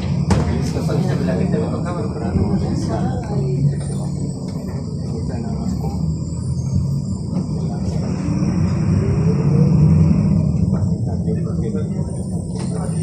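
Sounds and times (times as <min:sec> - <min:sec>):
bus engine rumbling: 0:00.0 - 0:13.0.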